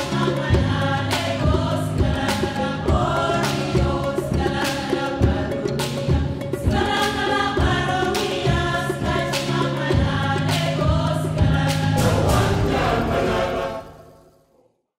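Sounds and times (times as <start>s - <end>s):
music with choir and beat: 0.0s - 14.4s.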